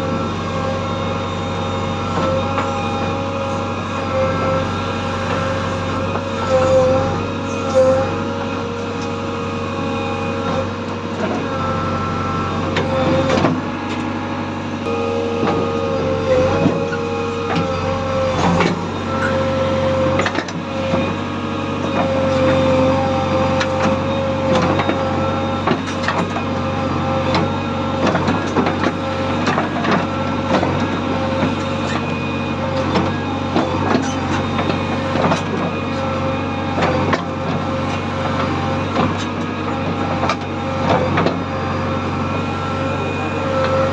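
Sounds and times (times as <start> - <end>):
diesel engine running: 0.0 - 43.9
steady whine: 7.2 - 43.9.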